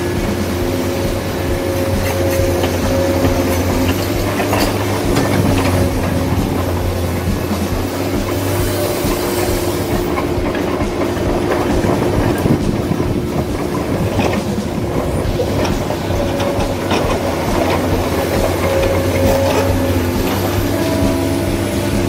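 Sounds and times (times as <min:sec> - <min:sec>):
electric motor and gear whine: 0:00.0 - 0:22.0
wheels rattling over bumpy dirt: 0:00.0 - 0:22.0.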